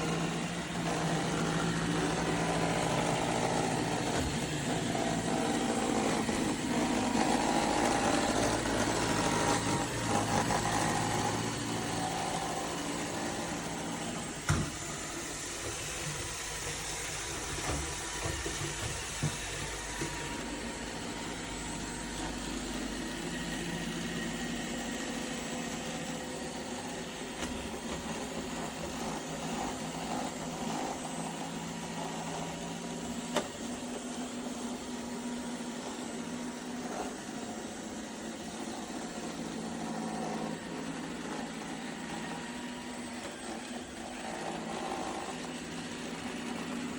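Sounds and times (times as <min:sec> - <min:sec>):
robot vacuum motor and brush whir: 0:00.0 - 0:46.9.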